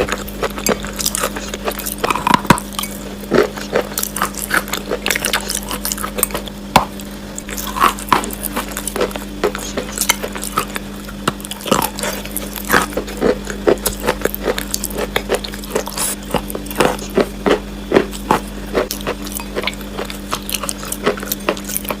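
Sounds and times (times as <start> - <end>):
chewing chalk crunches: 0.0 - 22.0.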